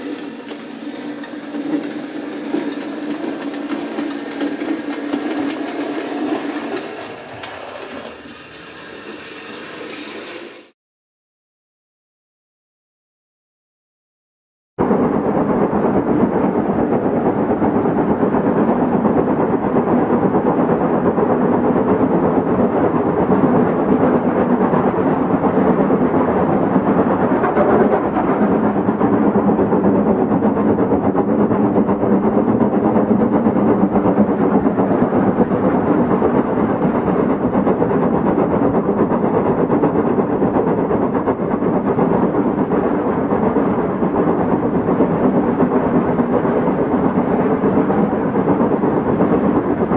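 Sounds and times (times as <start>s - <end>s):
model train rumbling on track: 0.0s - 10.7s, 17.2s - 49.9s.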